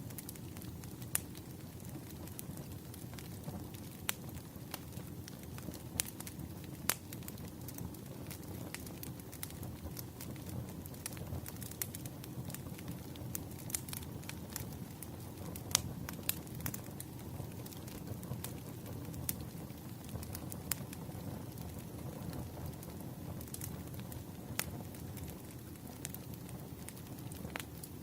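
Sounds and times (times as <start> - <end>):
burning wood crackling and popping: 0.0 - 28.0
low rumble of flames: 0.0 - 28.0.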